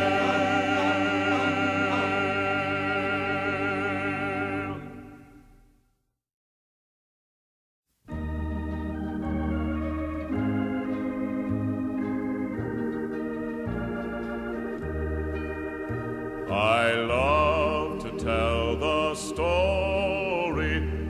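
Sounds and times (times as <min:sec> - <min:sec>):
organ playing a hymn: 0:00.0 - 0:05.6, 0:08.1 - 0:21.0.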